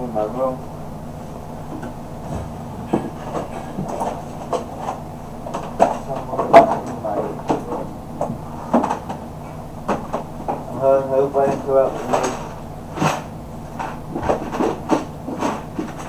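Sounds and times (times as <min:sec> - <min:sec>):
objects knocking and clattering: 0:01.7 - 0:10.8, 0:11.4 - 0:16.0.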